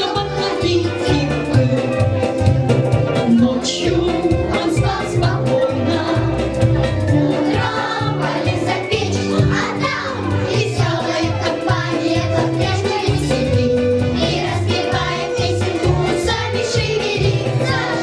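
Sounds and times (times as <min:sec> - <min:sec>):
instrumental accompaniment: 0:00.0 - 0:18.0
rhythmic bass beat: 0:00.1 - 0:18.0
children's choir singing: 0:03.4 - 0:18.0.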